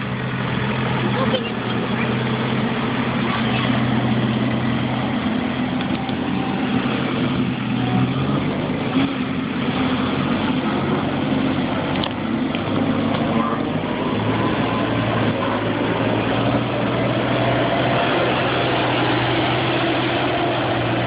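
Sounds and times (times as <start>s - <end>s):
low drone: 0.0s - 21.0s
truck engines idling hum: 0.0s - 21.0s.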